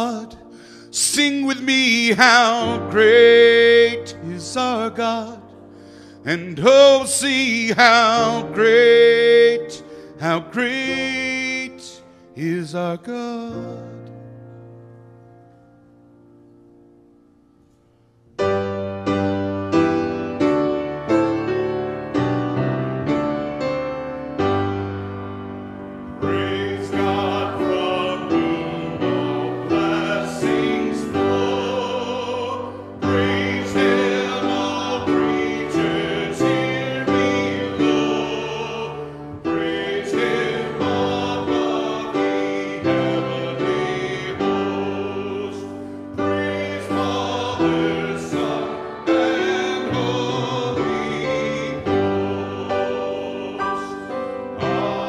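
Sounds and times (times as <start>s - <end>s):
full music arrangement: 0.0s - 55.0s
keyboard chords: 0.0s - 55.0s.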